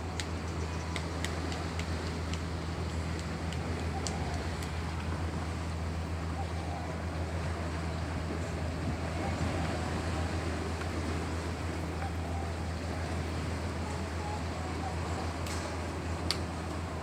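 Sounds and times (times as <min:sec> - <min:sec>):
boat engine droning: 0:00.0 - 0:17.0
rushing wind: 0:00.0 - 0:17.0
water noise: 0:00.0 - 0:17.0.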